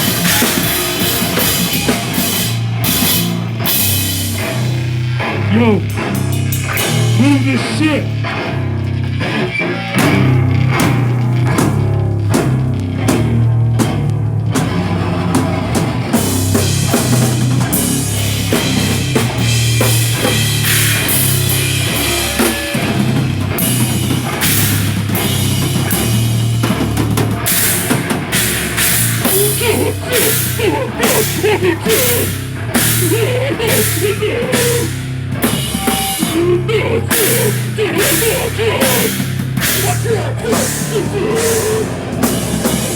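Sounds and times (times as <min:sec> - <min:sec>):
drum kit hits and cymbals: 0:00.0 - 0:42.9
heavy bass and guitar riff: 0:00.0 - 0:42.9.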